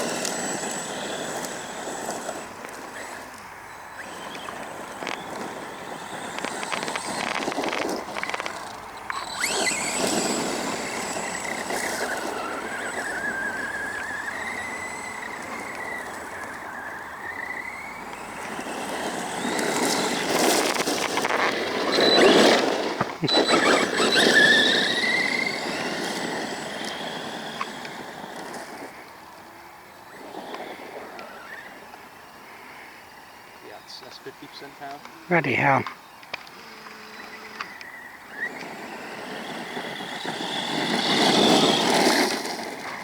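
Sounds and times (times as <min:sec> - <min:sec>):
electric motor whining: 0:00.0 - 0:43.0.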